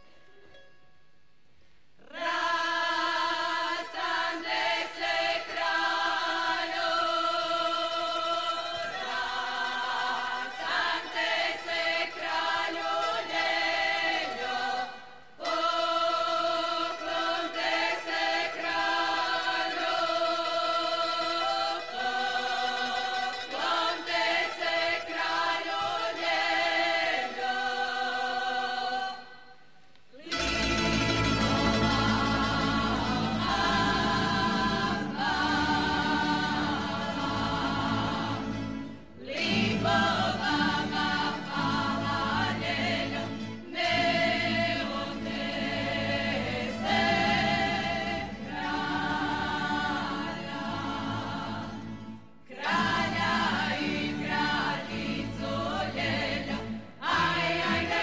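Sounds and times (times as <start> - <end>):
women's choir singing unaccompanied: 2.0 - 58.0.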